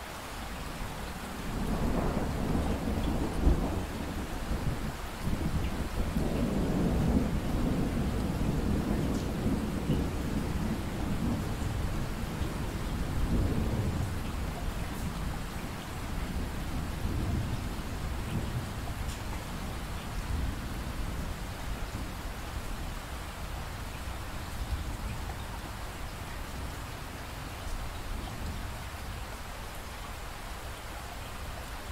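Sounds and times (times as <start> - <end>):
steady rain hiss: 0.0 - 31.9
low roll of thunder: 1.2 - 29.2.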